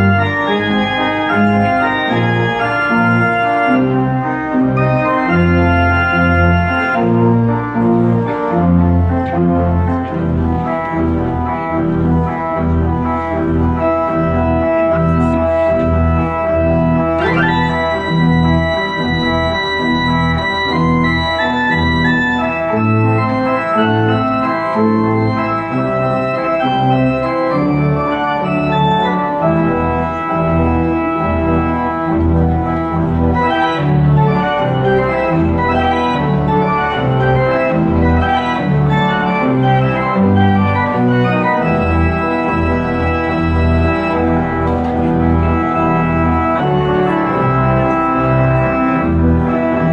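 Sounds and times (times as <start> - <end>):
pipe organ playing: 0.0 - 49.9.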